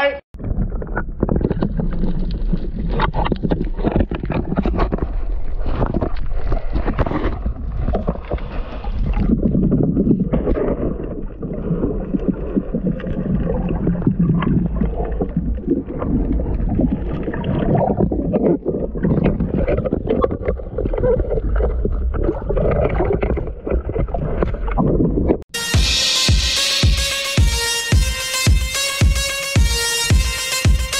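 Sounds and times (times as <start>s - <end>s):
muffled underwater rushing water: 0.4s - 25.5s.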